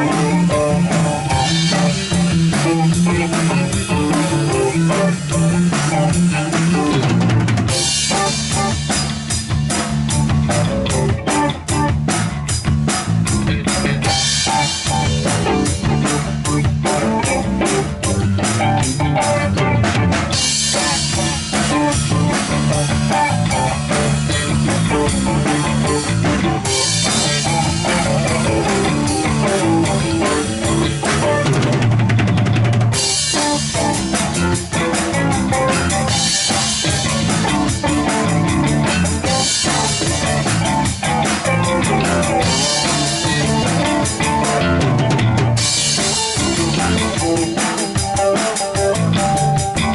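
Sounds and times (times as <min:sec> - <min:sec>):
drum kit beat: 0:00.0 - 0:49.9
rock band playing: 0:00.0 - 0:49.9.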